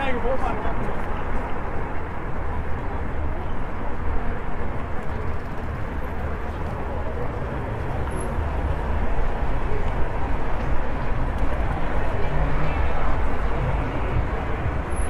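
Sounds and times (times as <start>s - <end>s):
scooter wheels rolling on pavement: 2.0s - 15.0s.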